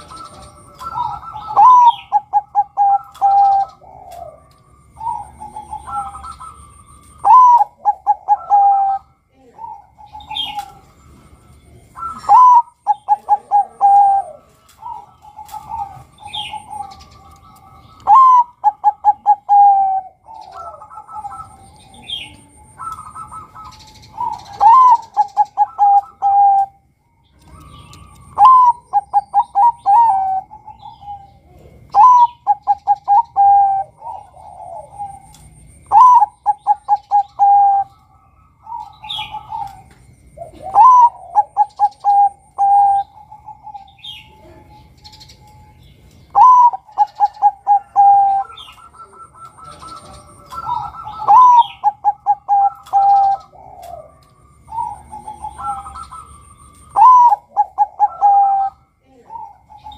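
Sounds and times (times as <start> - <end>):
dove cooing song: 0.0 - 59.9.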